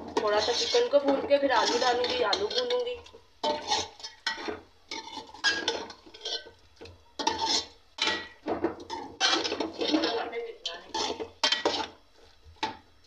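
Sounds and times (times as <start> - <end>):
metal spoon scraping cooking pot: 0.0 - 12.0.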